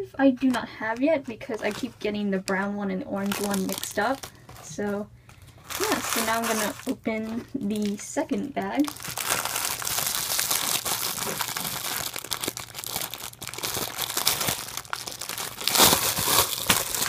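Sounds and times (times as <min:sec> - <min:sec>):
plastic bag crinkling: 0:01.4 - 0:17.0.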